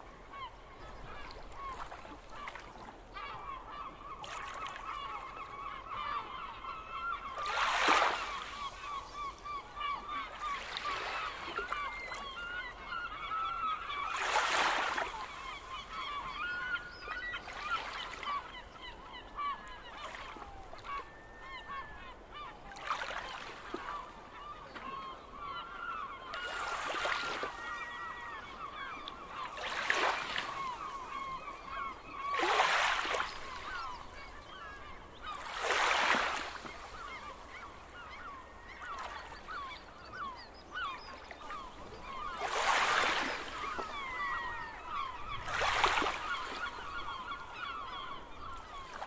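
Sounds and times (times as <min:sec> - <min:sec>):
many birds calling: 0:00.2 - 0:49.0.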